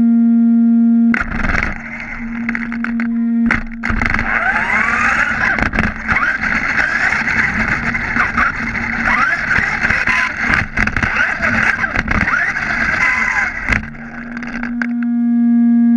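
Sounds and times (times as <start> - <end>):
electric motor whine: 1.1 - 15.5.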